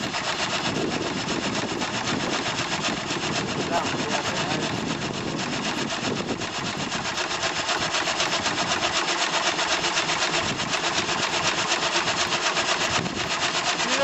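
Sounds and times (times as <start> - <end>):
mechanical clatter: 0.0 - 14.0
steam engine exhaust beating: 0.0 - 14.0.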